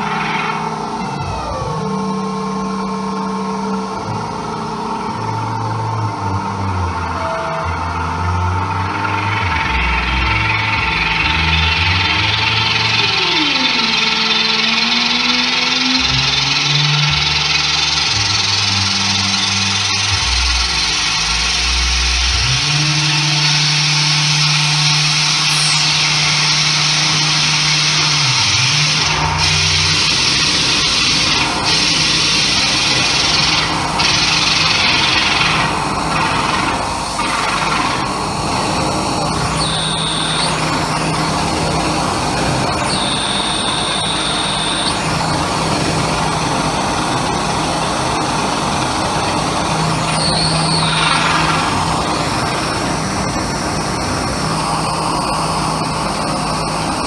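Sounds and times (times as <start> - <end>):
high steady tone: 0.0 - 57.0
low electronic drone: 0.0 - 57.0.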